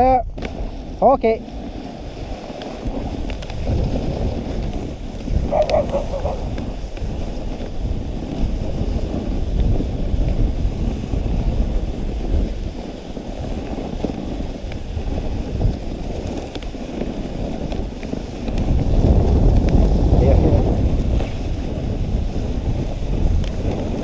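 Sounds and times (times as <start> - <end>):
sled runners sliding over snow: 0.0 - 24.0
wind on microphone: 0.0 - 24.0.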